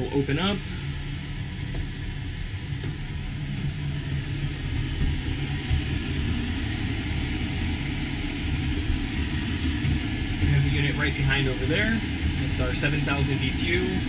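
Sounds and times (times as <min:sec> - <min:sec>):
air conditioner humming and hissing: 0:00.0 - 0:14.0.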